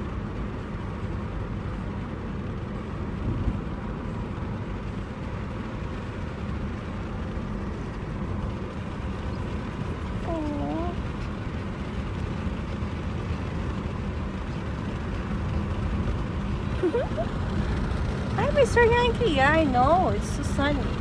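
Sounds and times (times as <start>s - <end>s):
car interior road rumble: 0.0s - 21.0s.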